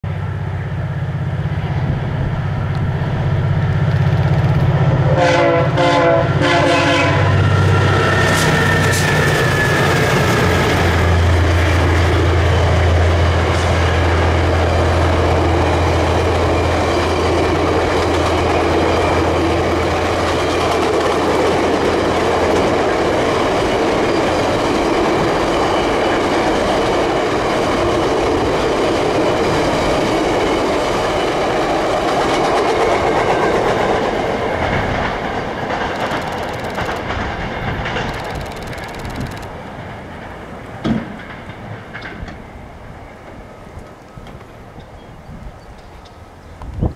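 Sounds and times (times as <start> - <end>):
diesel locomotive drone: 0.0 - 46.9
train cars rumbling and clacking: 0.0 - 46.9.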